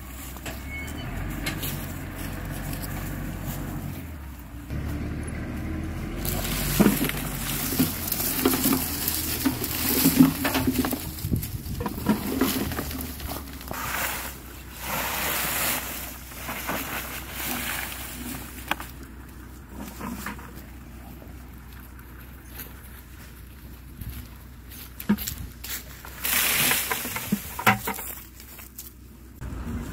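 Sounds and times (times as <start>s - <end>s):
dry leaves rustling: 0.0s - 0.4s, 1.0s - 29.9s.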